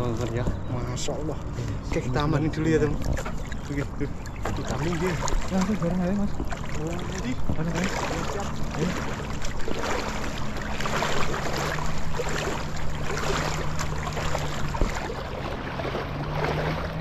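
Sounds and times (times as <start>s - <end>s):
steady low hum: 0.0s - 17.0s
water sloshing around legs: 0.0s - 17.0s.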